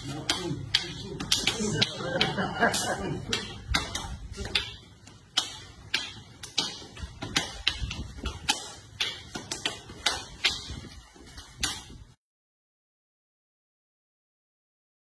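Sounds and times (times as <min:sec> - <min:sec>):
rattan sticks clacking: 0:00.0 - 0:12.1.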